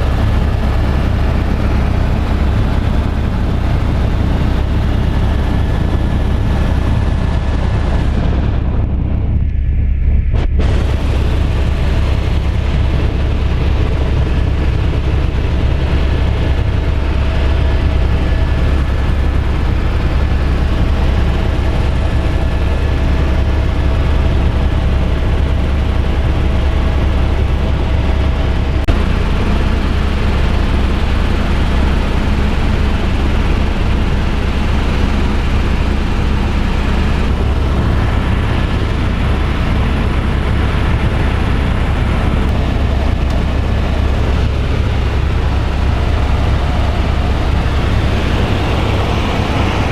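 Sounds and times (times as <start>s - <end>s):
helicopter engine and rotors: 0.0s - 49.9s.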